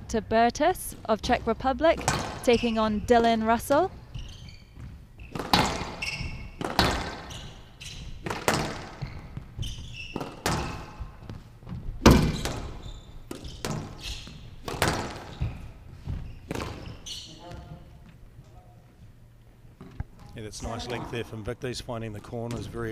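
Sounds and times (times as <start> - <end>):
shoes squeaking on court floor: 0.9 - 19.2.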